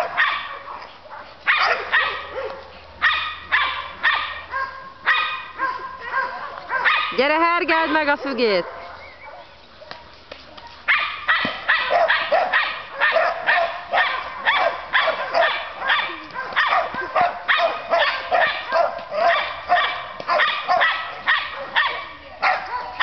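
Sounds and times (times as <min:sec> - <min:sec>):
dog barking excitedly: 0:00.0 - 0:10.0, 0:10.7 - 0:23.0.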